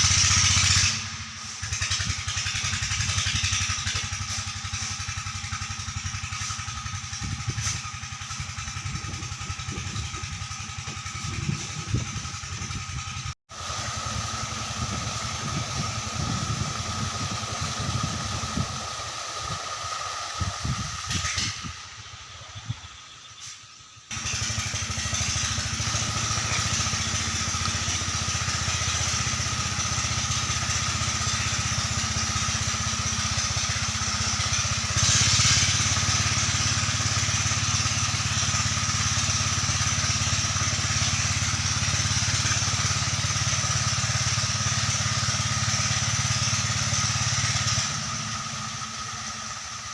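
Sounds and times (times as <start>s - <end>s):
sand suction pump engine running: 0.0s - 49.9s.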